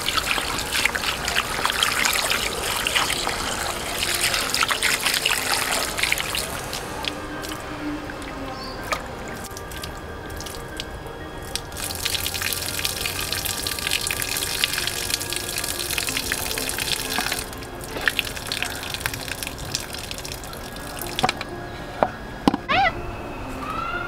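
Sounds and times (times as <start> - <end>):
water pouring and splashing: 0.0 - 21.5
water dripping: 0.0 - 21.6.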